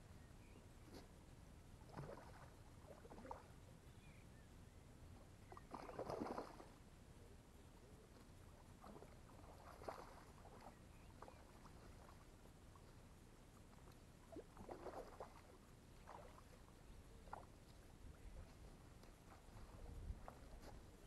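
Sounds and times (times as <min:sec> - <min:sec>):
faint water splashes: 0:00.8 - 0:04.3, 0:05.1 - 0:21.0.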